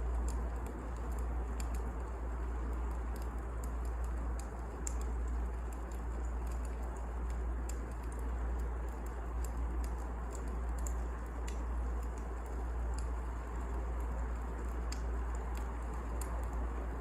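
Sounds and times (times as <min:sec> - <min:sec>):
fire crackles and pops: 0:00.0 - 0:17.0
wood fire burning: 0:00.0 - 0:17.0.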